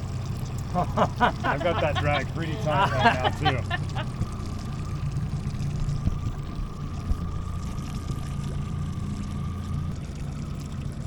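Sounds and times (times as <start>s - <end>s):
boat hum: 0.0s - 11.0s
water lapping: 0.0s - 11.0s.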